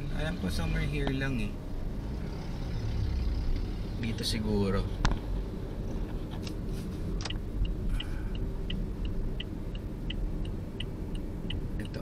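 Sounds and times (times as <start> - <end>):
car road and engine rumble: 0.0 - 12.0
turn signal ticking: 0.0 - 12.0.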